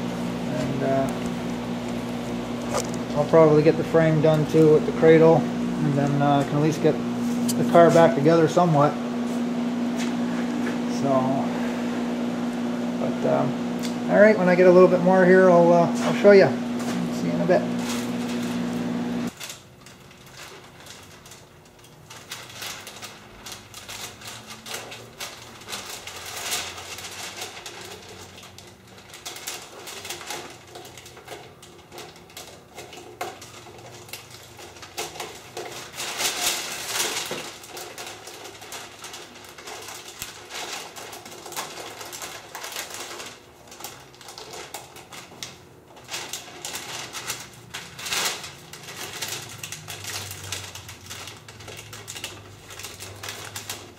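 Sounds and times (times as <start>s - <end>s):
plastic sheeting crinkling: 0.0s - 53.9s.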